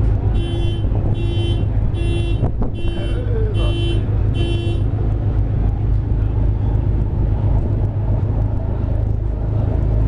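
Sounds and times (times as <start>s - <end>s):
ship engines droning: 0.0s - 10.0s
water rushing along hull: 0.0s - 10.0s.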